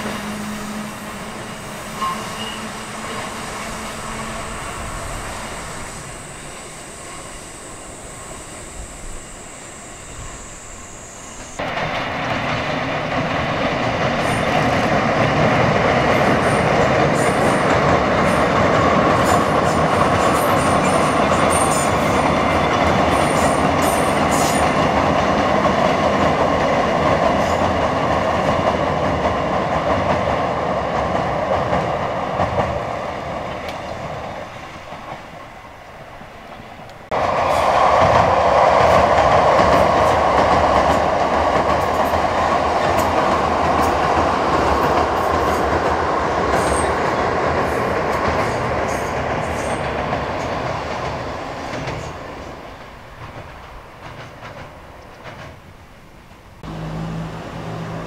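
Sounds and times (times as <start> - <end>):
electric train running loudly: 0.0 - 35.4, 37.1 - 55.5
train running over bridge: 0.0 - 58.0.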